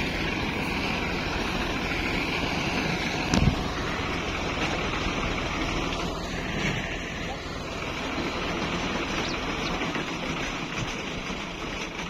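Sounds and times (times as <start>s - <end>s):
harvesting machine running: 0.0s - 12.0s.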